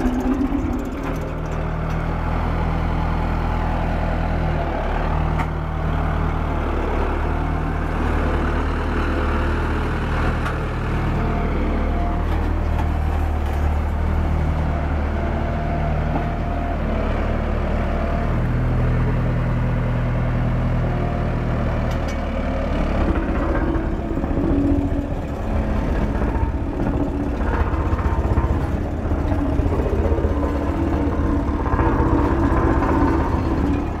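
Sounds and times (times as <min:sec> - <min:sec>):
road roller engine running: 0:00.0 - 0:34.0.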